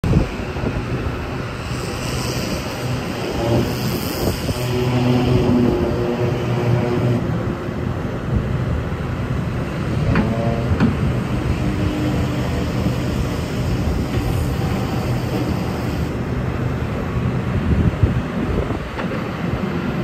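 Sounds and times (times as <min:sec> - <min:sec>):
hydraulic whine: 0:00.0 - 0:20.0
excavator diesel engine running: 0:00.1 - 0:20.0.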